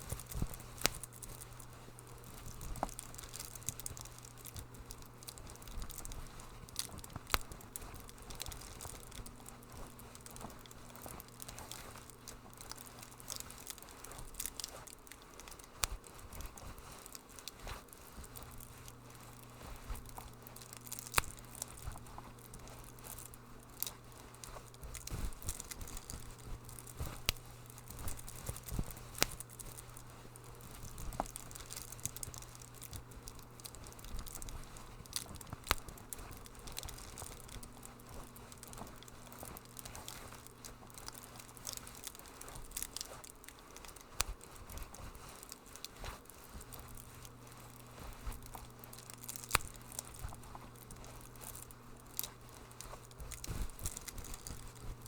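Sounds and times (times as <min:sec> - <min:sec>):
low steady hum: 0:00.0 - 0:55.0
wood fire crackling and popping: 0:00.0 - 0:55.0.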